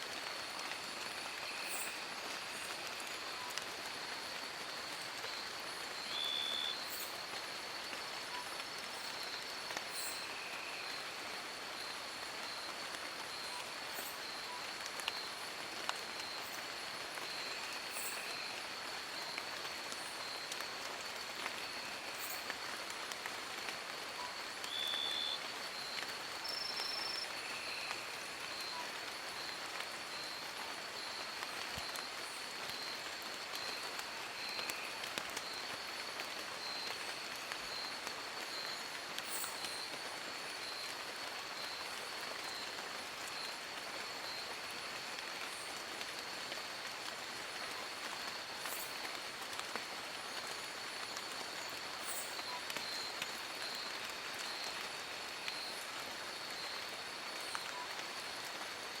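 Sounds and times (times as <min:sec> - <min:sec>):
rain pattering on leaves: 0:00.0 - 0:59.0.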